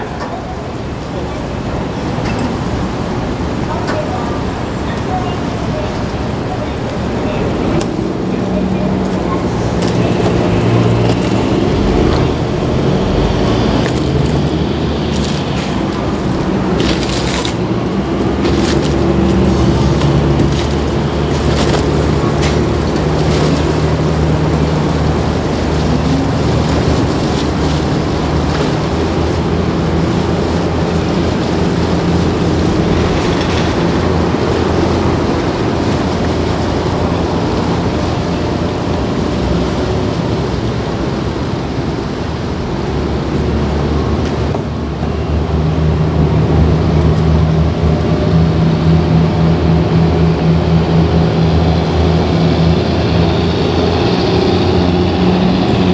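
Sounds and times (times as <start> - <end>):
ferry engine running: 0.0 - 55.9
propeller wash churning water: 0.0 - 55.9.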